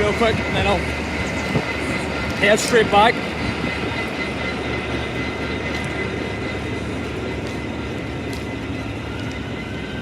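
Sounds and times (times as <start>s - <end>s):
train rumbling past: 0.0s - 10.0s.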